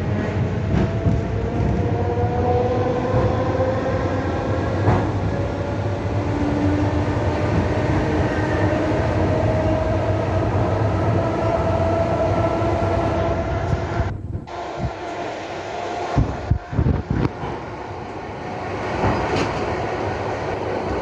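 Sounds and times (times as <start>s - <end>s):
train rumbling with whining tones: 0.0s - 21.0s.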